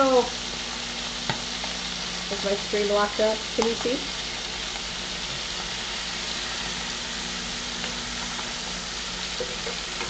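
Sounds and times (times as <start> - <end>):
chicken sizzling in skillet: 0.0 - 10.0.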